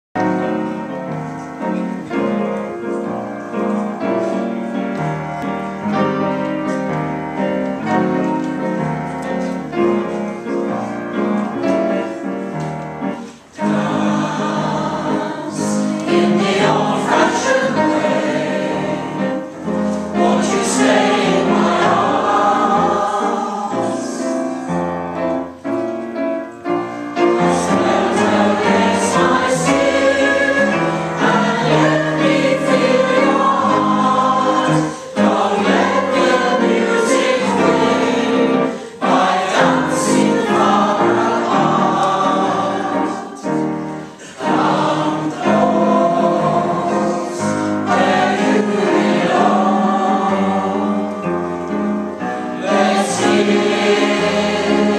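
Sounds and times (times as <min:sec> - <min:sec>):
piano accompaniment: 0:00.0 - 0:54.9
choir singing: 0:00.2 - 0:26.1, 0:26.8 - 0:54.9.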